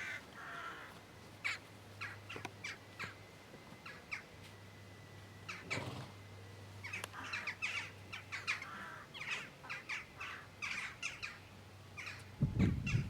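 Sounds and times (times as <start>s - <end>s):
birds calling: 0.0s - 4.4s, 5.4s - 13.0s
low steady hum: 0.0s - 13.0s.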